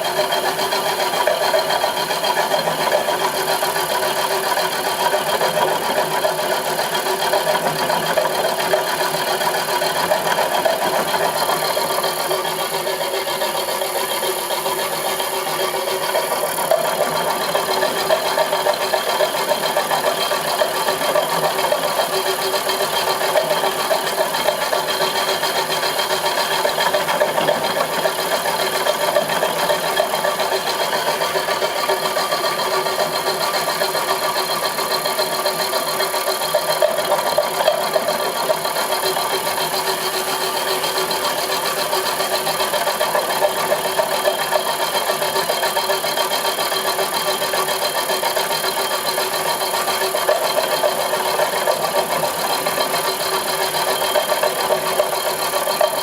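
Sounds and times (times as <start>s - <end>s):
milling machine running: 0.0s - 56.0s.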